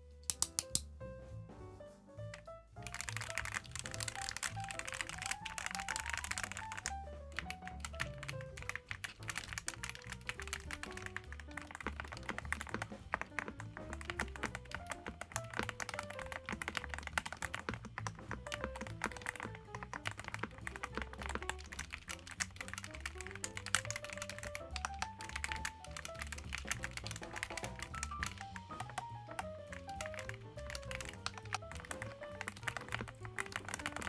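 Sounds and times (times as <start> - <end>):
background music with bass: 0.0 - 34.0
fast typing on mechanical keyboard: 2.8 - 34.0.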